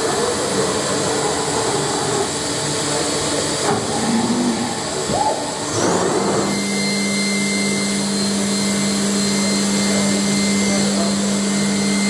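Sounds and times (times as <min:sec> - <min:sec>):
machining center whirring: 0:00.0 - 0:12.0
rising machine whine: 0:00.8 - 0:12.0.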